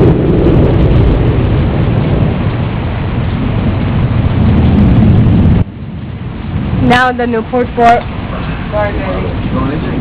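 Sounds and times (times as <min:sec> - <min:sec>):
loud rumble of thunder: 0:00.0 - 0:10.0
steady rain: 0:00.0 - 0:10.0.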